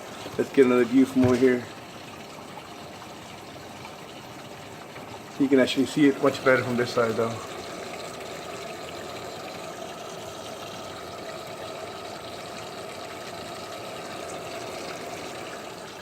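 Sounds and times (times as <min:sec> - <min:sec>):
water running into bathtub: 0:00.0 - 0:16.0.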